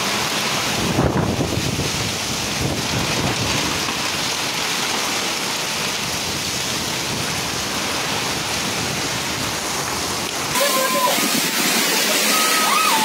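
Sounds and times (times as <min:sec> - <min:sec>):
torrential rain hissing: 0:00.0 - 0:13.0.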